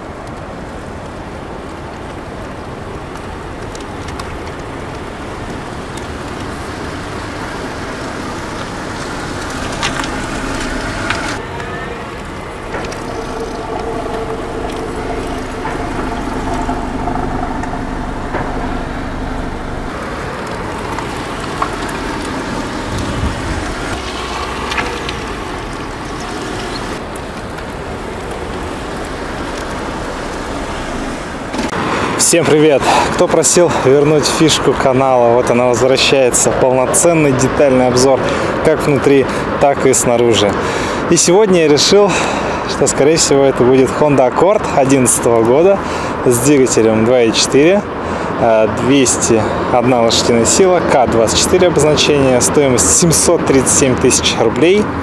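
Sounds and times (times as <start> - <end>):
rumble of road traffic: 0.0 - 55.0.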